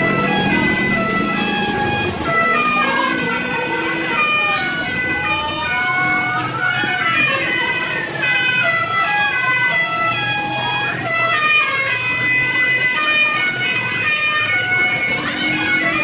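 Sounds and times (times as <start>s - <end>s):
multi-note vehicle horns: 0.0s - 16.0s.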